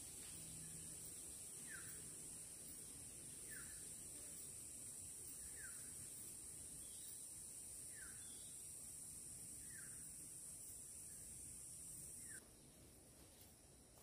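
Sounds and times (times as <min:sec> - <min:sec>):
high-pitched insect drone: 0:00.0 - 0:12.4.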